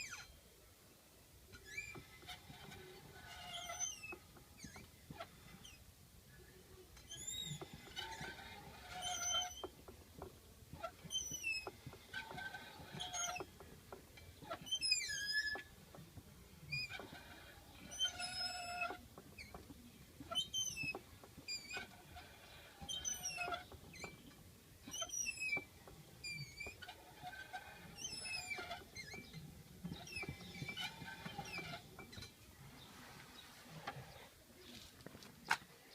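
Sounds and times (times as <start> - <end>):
driveshaft squeaking: 1.5 - 5.9, 6.9 - 33.0.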